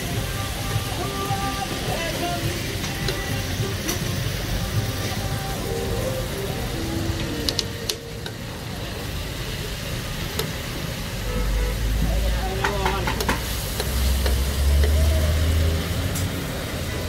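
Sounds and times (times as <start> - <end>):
liver sizzling in oil on griddle: 0.0 - 17.0.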